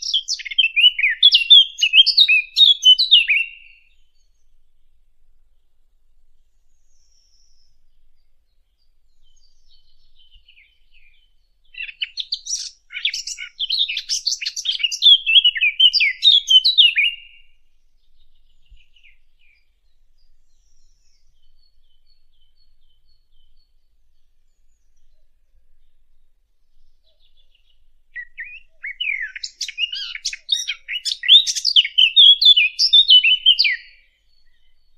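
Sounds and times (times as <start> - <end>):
bird warbling song: 0.0 - 5.7, 6.4 - 34.9
faint bird chirps: 0.0 - 34.9.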